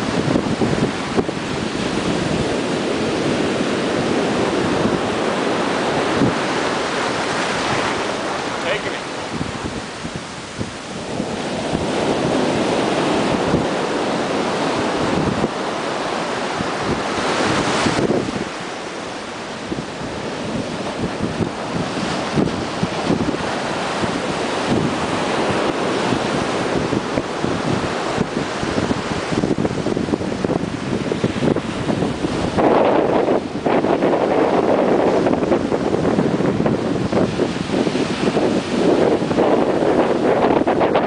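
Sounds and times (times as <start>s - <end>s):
ocean surf breaking: 0.0s - 41.0s
wind buffeting microphone: 0.0s - 41.0s.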